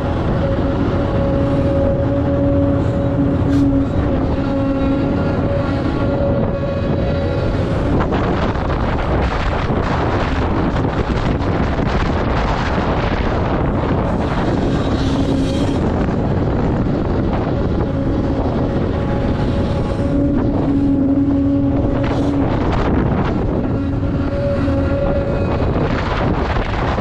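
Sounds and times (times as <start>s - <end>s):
heavy diesel machinery running: 0.0s - 27.0s
machinery whine: 0.0s - 27.0s
wind buffeting microphone: 0.0s - 27.0s.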